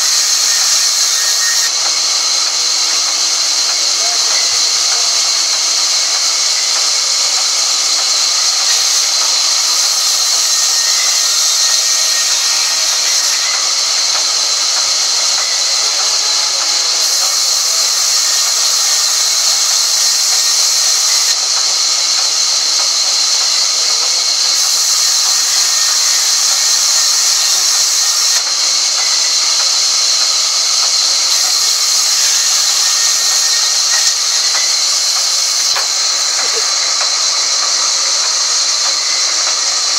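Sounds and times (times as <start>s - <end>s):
sawmill blade cutting log: 0.0s - 23.0s, 23.6s - 39.9s.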